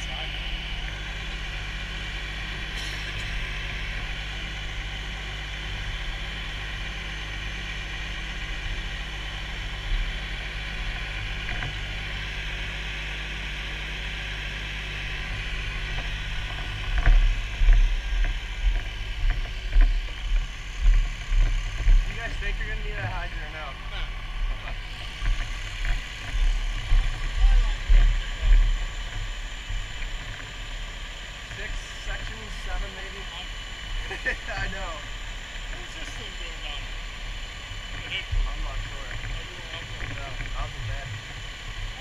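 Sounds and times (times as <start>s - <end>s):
fire engine pump droning: 0.0s - 42.0s
high whine: 0.0s - 42.0s.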